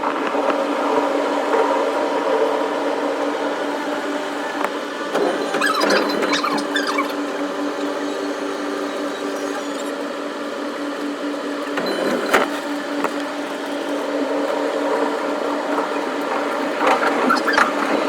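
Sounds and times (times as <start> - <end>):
electric train running hum: 0.0 - 18.0.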